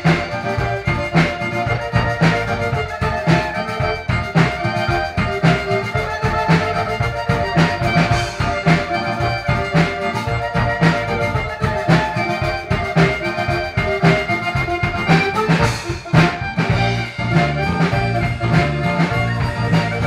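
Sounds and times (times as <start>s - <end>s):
folk music led by accordion: 0.0s - 20.0s
low bass notes: 0.0s - 20.0s.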